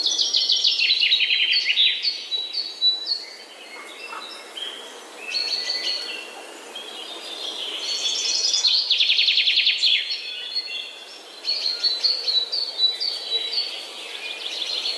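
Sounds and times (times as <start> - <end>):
birds chirping and calling: 0.0 - 14.9.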